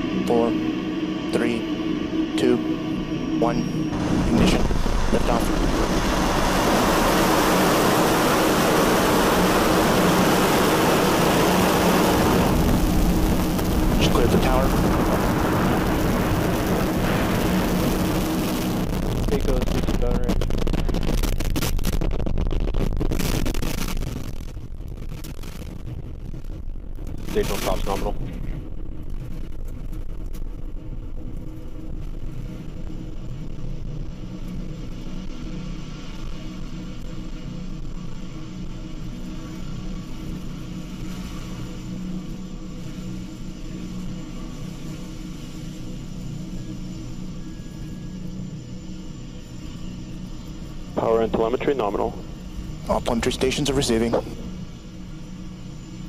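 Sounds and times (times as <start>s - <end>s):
rocket engines roaring: 0.0s - 56.0s.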